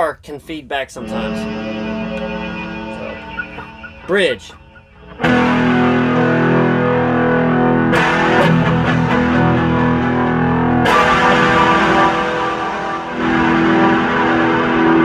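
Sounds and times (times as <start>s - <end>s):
distorted electric guitar chord strummed: 1.0s - 15.0s.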